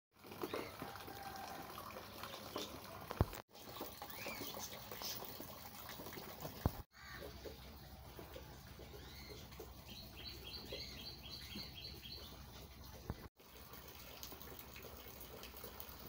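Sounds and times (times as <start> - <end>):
water dripping and trickling: 0.1 - 16.0.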